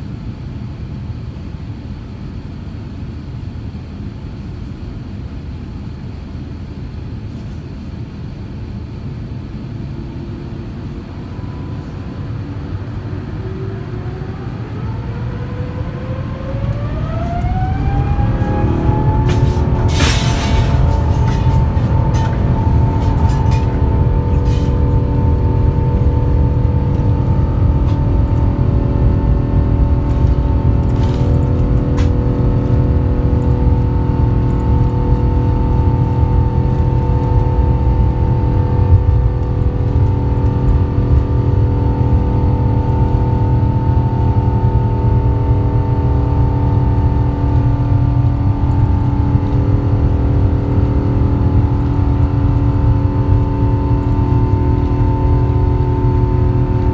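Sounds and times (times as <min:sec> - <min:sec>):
jet engines roaring at high thrust: 0:00.0 - 0:56.9.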